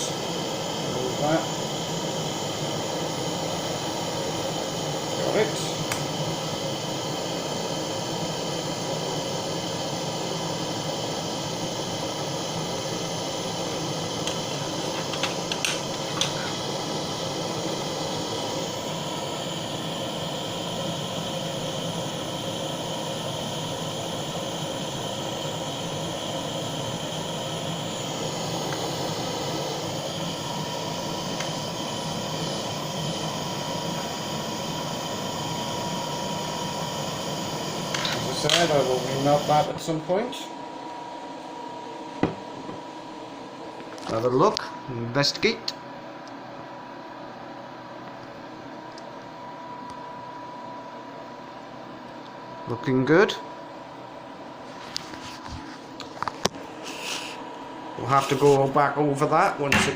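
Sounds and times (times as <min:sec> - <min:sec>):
blowtorch flame hissing: 0:00.0 - 0:45.7, 0:52.6 - 0:59.9.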